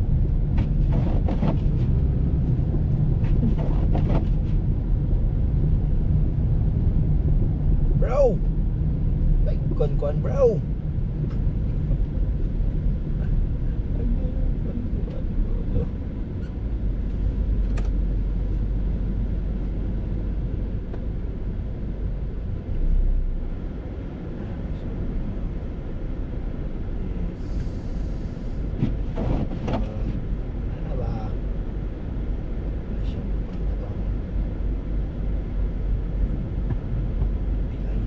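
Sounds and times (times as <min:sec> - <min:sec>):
moving vehicle rumble: 0:00.0 - 0:38.0.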